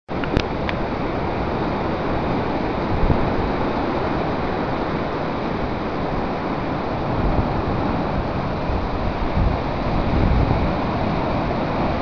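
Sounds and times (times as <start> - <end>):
wind buffeting microphone: 0.1 - 12.0
surf breaking on sea wall: 0.2 - 12.0.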